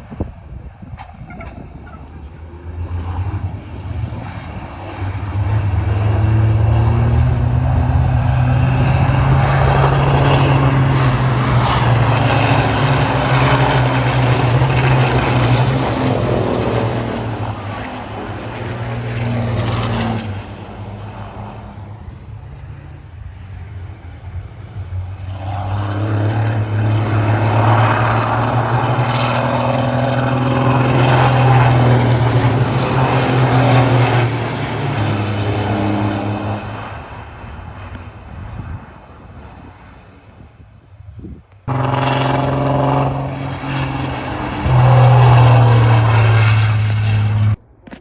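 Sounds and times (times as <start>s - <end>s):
racing truck diesel engines passing: 0.0s - 40.3s, 41.6s - 48.0s.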